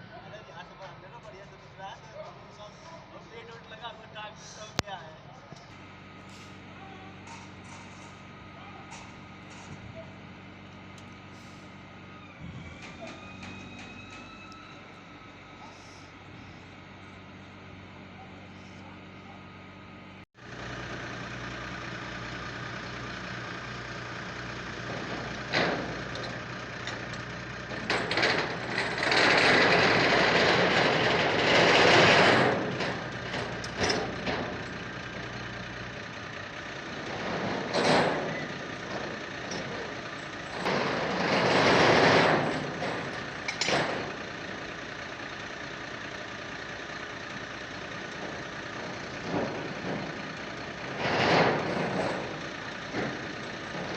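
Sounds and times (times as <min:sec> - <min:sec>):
crane diesel engine running: 0:00.0 - 0:53.9.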